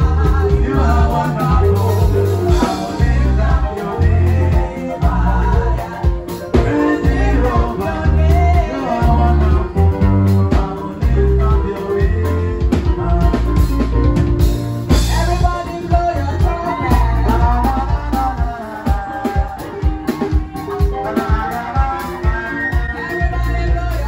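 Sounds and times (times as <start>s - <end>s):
person singing: 0.0s - 13.9s, 14.9s - 24.0s
live band playing dance music: 0.0s - 24.0s.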